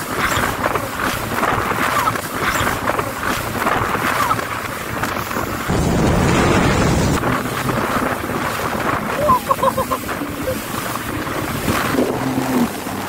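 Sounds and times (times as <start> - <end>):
jet ski engine: 0.0 - 13.0
rushing water: 0.0 - 13.0
wind buffeting microphone: 0.0 - 13.0.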